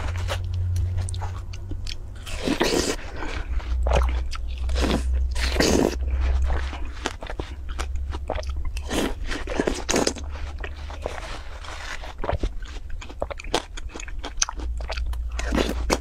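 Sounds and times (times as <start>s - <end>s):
chewing watermelon: 0.0s - 16.0s.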